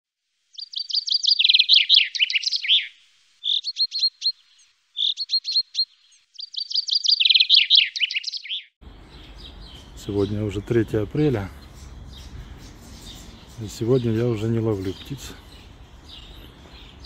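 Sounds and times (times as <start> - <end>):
songbird singing: 0.5 - 17.0.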